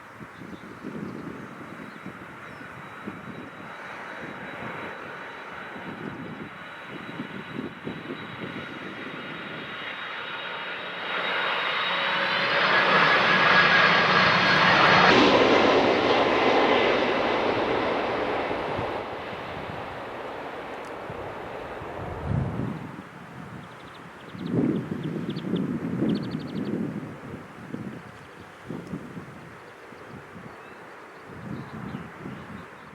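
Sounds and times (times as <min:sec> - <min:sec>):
jet engine whine: 0:00.0 - 0:32.9
jet airliner passing: 0:00.1 - 0:32.9.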